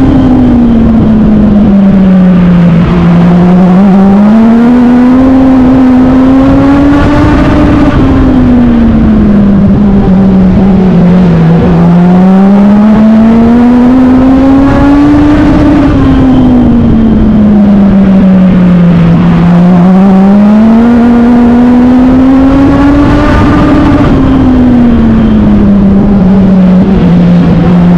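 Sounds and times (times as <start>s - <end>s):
race car engine revving: 0.0s - 27.9s
wind and road noise: 0.0s - 27.9s.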